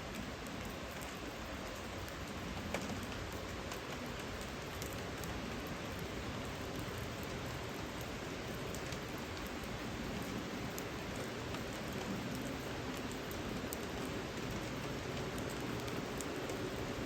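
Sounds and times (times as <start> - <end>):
steady rain patter: 0.0 - 17.0.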